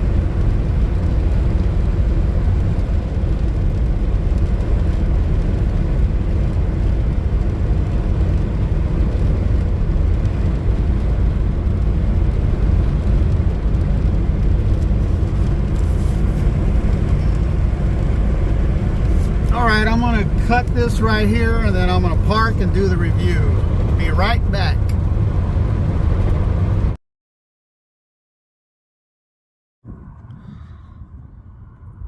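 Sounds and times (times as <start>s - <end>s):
pickup truck engine rumble: 0.0s - 27.0s
road noise: 0.0s - 27.0s, 29.8s - 32.0s.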